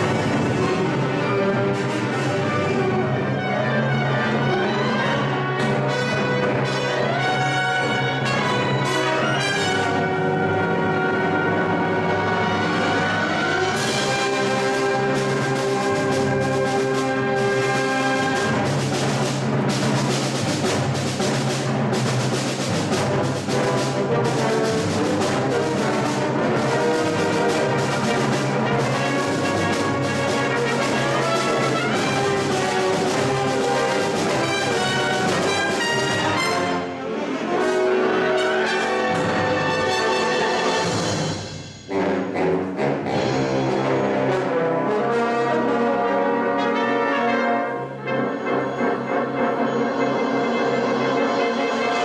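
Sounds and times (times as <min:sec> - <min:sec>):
concert band playing: 0:00.0 - 0:52.0.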